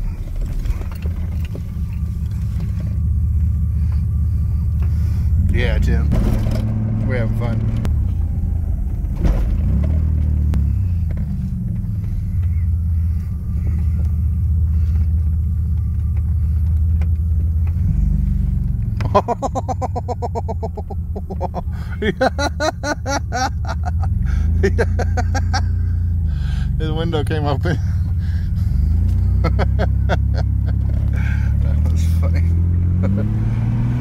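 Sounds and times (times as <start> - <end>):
off-road vehicle engine rumble: 0.0 - 34.0.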